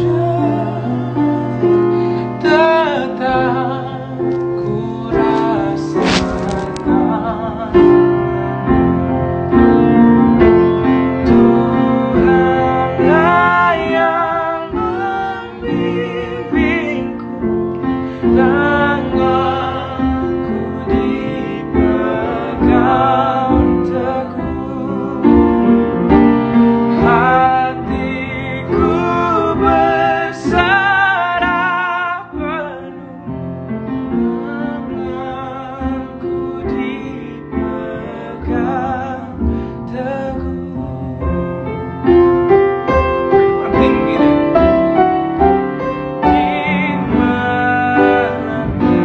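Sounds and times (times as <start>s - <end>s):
men singing gospel duet: 0.0s - 8.8s, 10.8s - 49.0s
piano accompaniment: 0.0s - 49.0s.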